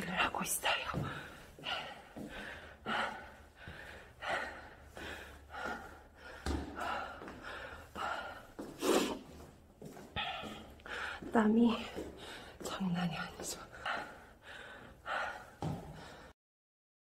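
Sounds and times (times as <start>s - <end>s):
person breathing hard: 0.8s - 12.6s, 13.6s - 16.4s.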